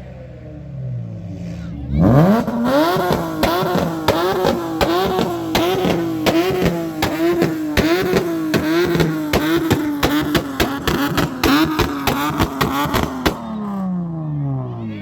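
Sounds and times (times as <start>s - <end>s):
exhaust bangs: 0.2s - 14.9s
car engine bouncing off rev limiter: 2.0s - 14.3s.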